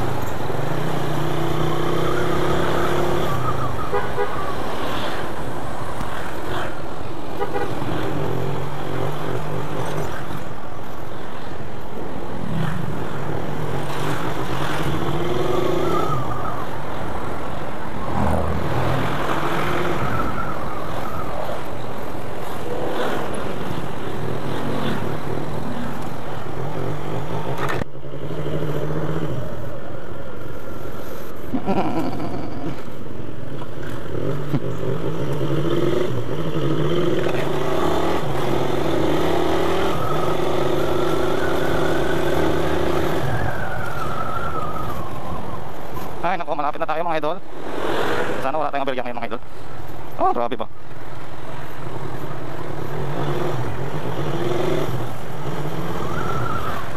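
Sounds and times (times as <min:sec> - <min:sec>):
wind and road noise: 0:00.0 - 0:56.9.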